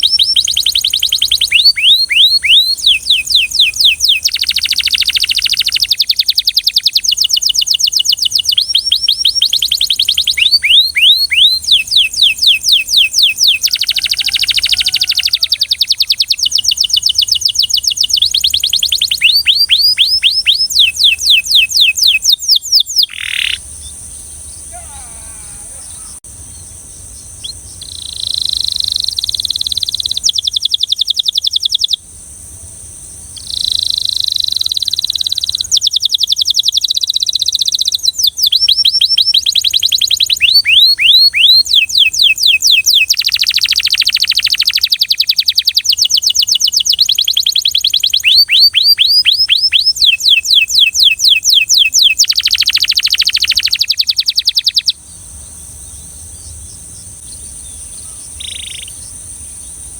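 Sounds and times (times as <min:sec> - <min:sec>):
canary singing trills: 0:00.0 - 0:32.0, 0:33.3 - 0:59.9.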